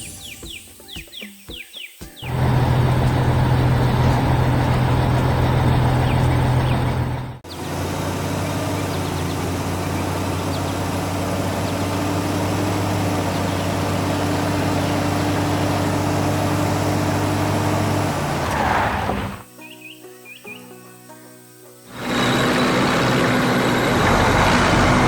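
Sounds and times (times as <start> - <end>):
heavy machine engine running: 2.3 - 19.4, 21.9 - 25.0.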